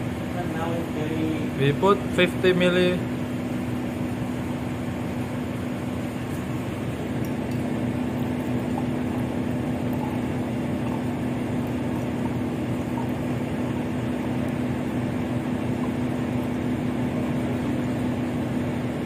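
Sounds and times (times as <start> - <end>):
ship machinery droning: 0.0 - 19.0.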